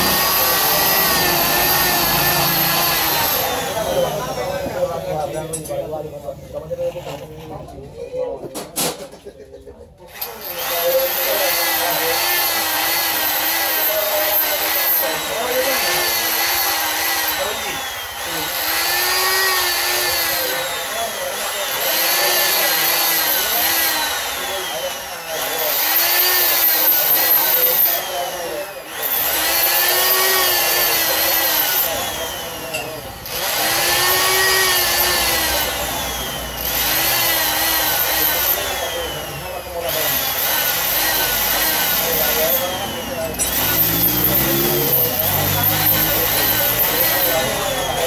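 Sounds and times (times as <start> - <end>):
die grinder whining on metal: 0.0 - 6.0, 10.1 - 48.0.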